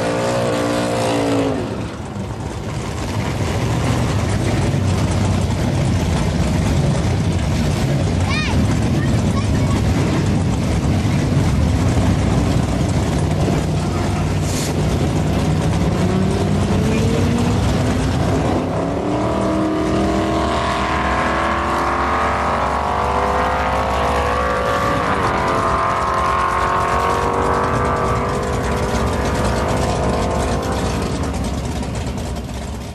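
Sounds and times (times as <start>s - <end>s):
drag car engine accelerating: 0.0s - 32.9s.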